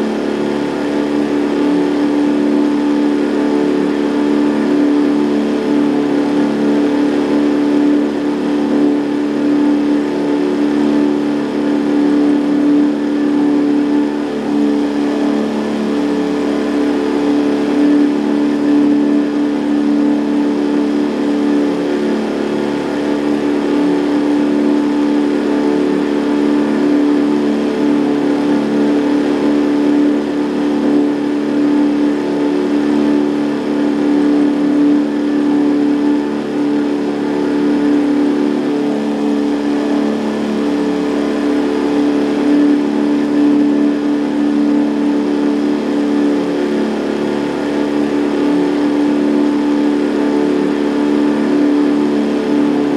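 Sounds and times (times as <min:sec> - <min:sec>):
outboard motor droning: 0:00.0 - 0:52.9.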